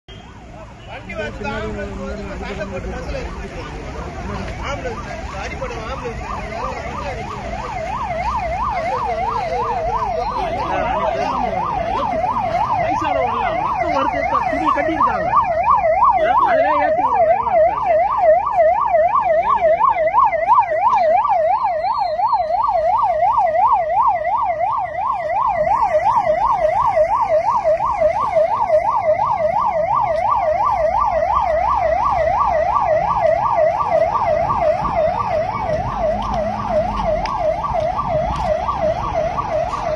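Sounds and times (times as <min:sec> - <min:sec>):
siren yelping: 0:01.4 - 0:39.9.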